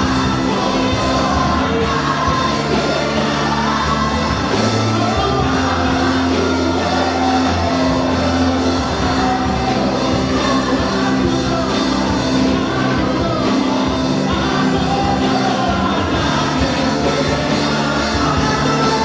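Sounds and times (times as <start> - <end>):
live gospel band with singing: 0.0 - 19.0.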